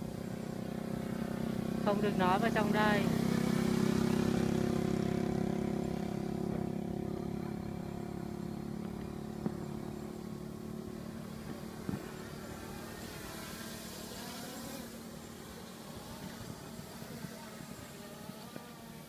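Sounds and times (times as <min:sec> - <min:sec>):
model airplane propeller droning: 0:00.0 - 0:19.0.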